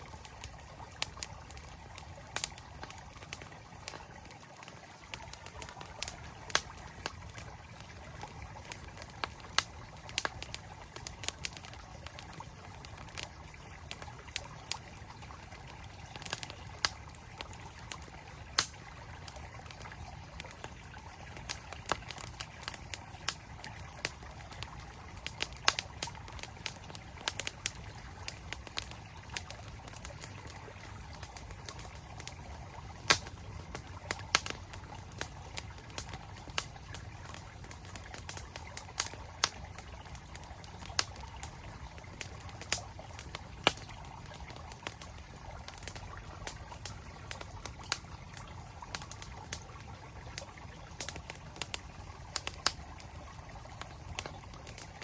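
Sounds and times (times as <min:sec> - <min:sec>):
campfire crackling: 0:00.0 - 0:55.0
flowing stream: 0:00.0 - 0:55.0.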